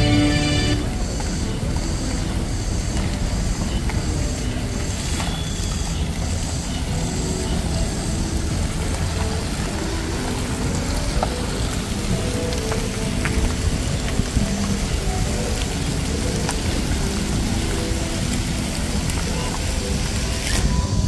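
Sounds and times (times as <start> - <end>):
faint music: 0.0 - 21.0
traffic rumble: 0.0 - 21.0.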